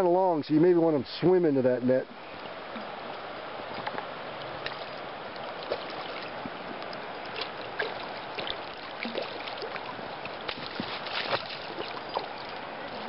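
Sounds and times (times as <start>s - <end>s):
creek water running: 0.0s - 13.0s
light ticks and small splashes: 2.2s - 13.0s.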